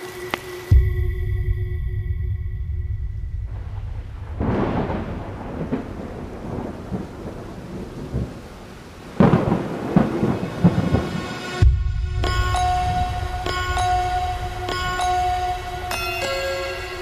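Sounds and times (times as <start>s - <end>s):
steady rain: 0.0s - 0.8s, 3.5s - 17.0s
thunder rumbling: 0.7s - 16.0s.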